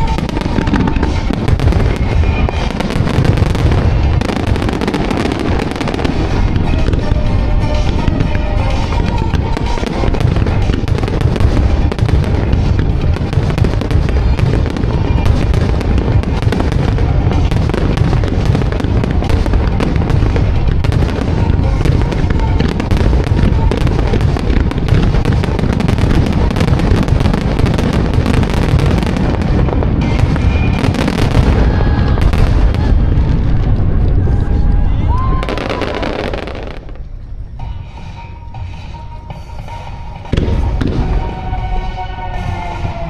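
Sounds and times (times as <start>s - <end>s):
firework bursts and crackle: 0.0s - 37.6s, 40.0s - 43.0s
music over loudspeakers: 0.0s - 43.0s.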